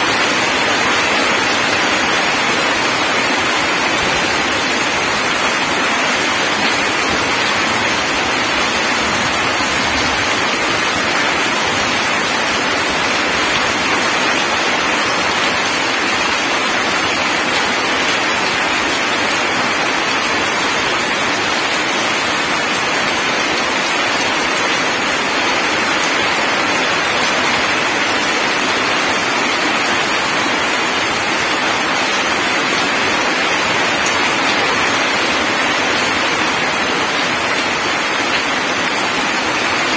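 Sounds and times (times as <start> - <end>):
heavy rain on wet ground: 0.0 - 39.9.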